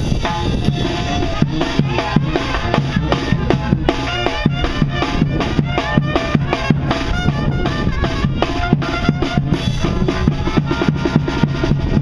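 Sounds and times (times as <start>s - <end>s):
drums keeping a steady beat: 0.0s - 12.0s
tuba and horns playing: 0.0s - 12.0s.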